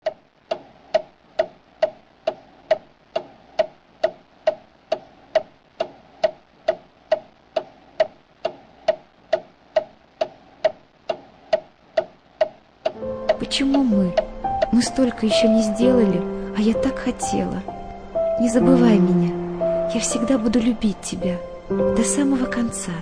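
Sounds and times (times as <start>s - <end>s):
steady ticking: 0.0s - 23.0s.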